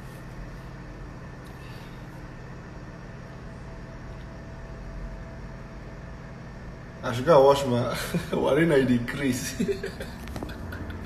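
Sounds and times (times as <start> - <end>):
low hum and hiss of room: 0.0 - 11.0.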